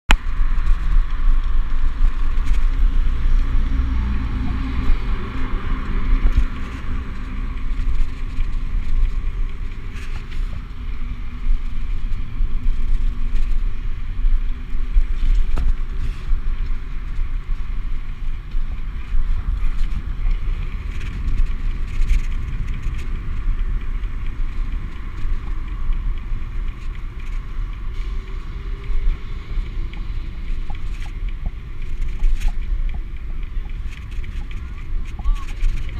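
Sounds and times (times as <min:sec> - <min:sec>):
bike tyre noise on pavement: 0:00.1 - 0:35.9
road traffic humming past: 0:00.1 - 0:35.9
wind buffeting a microphone: 0:00.1 - 0:35.9.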